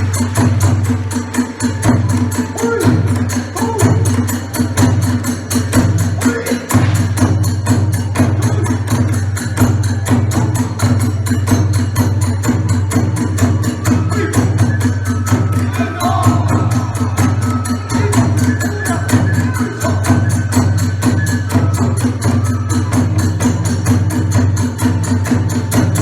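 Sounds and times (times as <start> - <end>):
drum beating: 0.0 - 26.0
hand cymbals: 0.0 - 26.0
wavering flute: 0.0 - 26.0.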